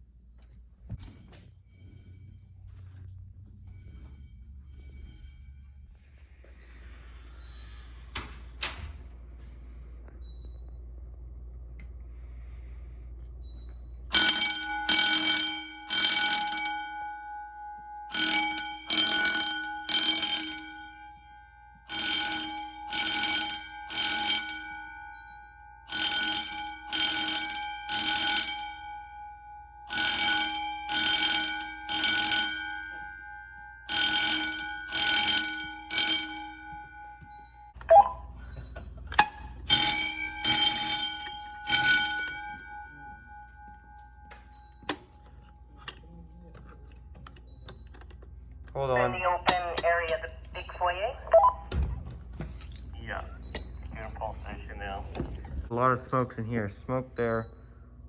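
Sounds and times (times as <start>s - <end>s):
fire alarm bell ringing: 0.0s - 58.0s.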